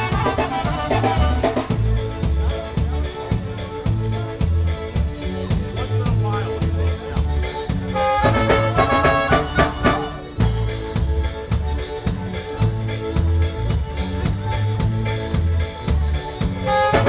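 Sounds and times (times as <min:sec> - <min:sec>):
clarinet and trumpet run: 0:00.0 - 0:17.0
polka band playing: 0:00.0 - 0:17.0.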